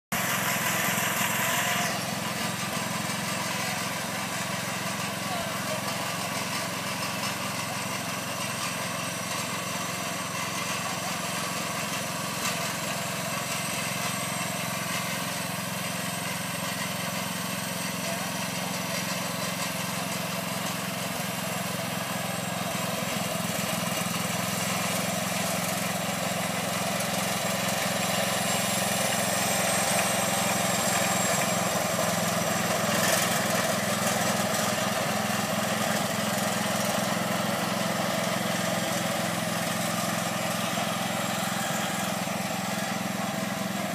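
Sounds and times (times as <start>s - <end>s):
garden tractor engine running: 0.1s - 43.9s.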